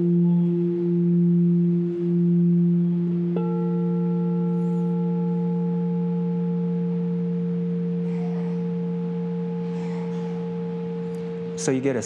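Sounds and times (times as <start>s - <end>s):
crystal singing bowl ringing: 0.0s - 12.0s.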